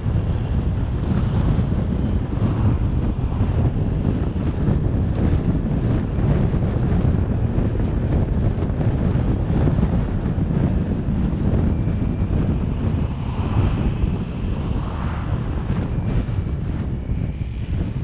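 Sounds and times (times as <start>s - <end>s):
road and engine rumble: 0.0s - 18.0s
wind buffeting microphone: 0.0s - 18.0s.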